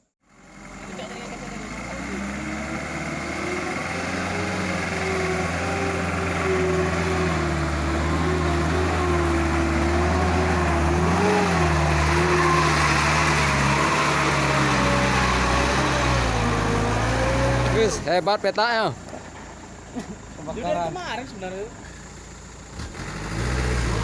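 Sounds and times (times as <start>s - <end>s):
truck engine under load: 0.2s - 24.0s.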